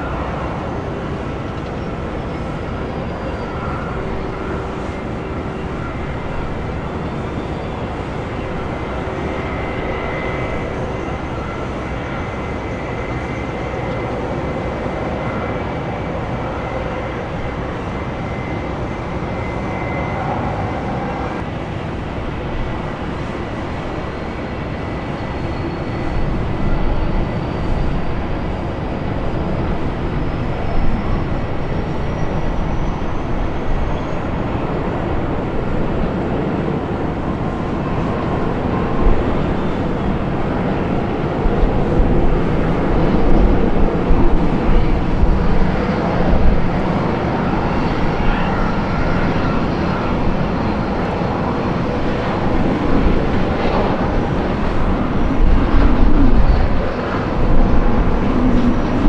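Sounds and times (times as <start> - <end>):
jet engines taxiing: 0.0 - 59.0.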